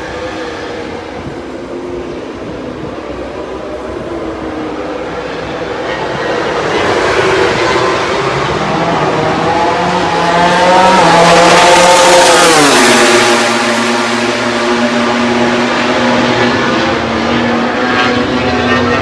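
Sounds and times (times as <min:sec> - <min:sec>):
race bike engine passing at speed: 0:00.0 - 0:19.0.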